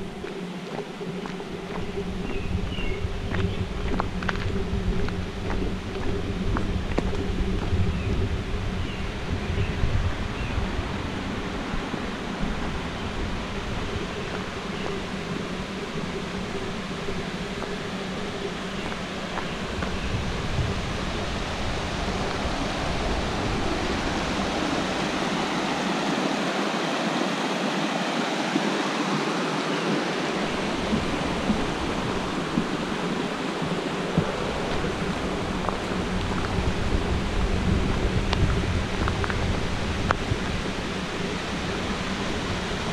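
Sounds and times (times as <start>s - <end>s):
deep rumble: 0.0s - 25.5s, 30.4s - 42.9s
water rushing over dam: 0.0s - 42.9s.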